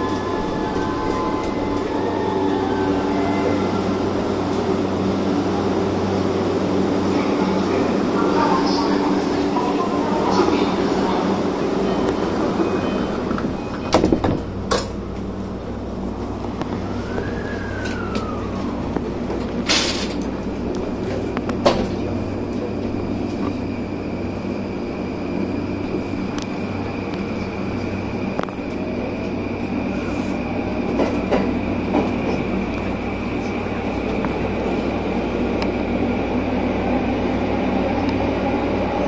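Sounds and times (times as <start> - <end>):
train equipment humming: 0.0 - 39.0.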